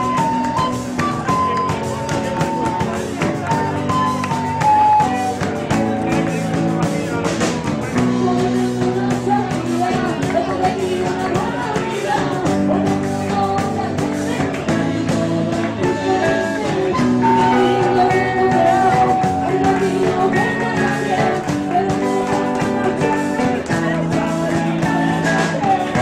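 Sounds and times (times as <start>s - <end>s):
live rock band: 0.0s - 26.0s.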